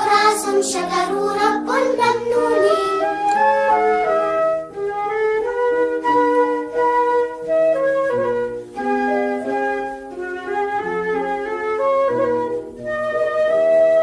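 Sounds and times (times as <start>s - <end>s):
flute-like melody: 0.0s - 14.0s.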